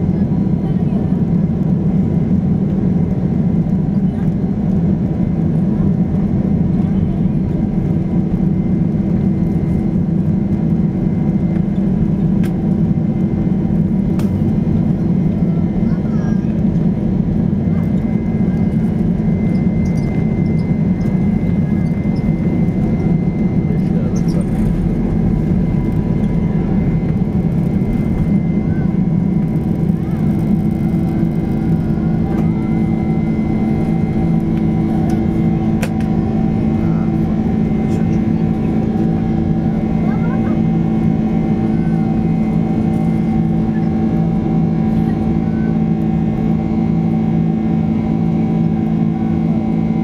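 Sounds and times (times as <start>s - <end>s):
jet engine rush: 0.0s - 50.0s.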